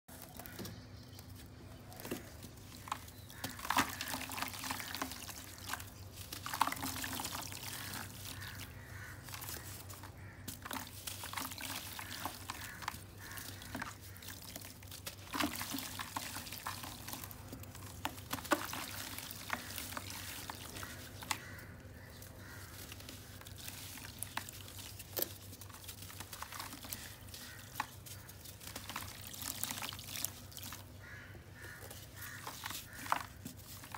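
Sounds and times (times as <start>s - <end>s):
earth grains sprinkling onto water: 2.2s - 30.9s.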